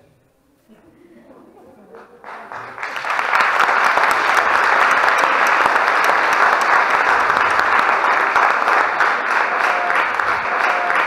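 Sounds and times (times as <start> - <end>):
audience applauding: 1.9 - 11.0.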